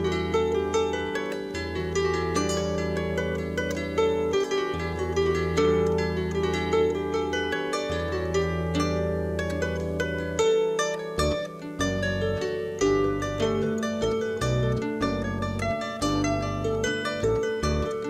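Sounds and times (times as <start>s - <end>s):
solo harp playing: 0.0s - 18.0s.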